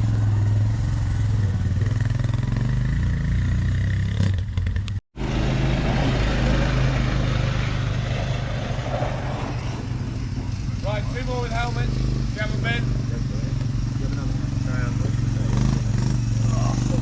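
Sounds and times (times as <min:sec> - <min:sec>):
buggy engine running: 0:00.0 - 0:17.0.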